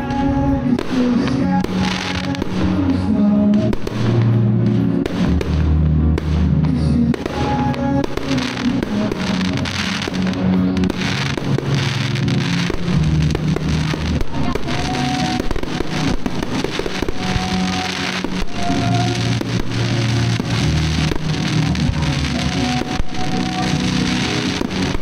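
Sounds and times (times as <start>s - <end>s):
fireworks bangs and crackling: 0.0s - 25.0s
music over a pa system: 0.0s - 25.0s.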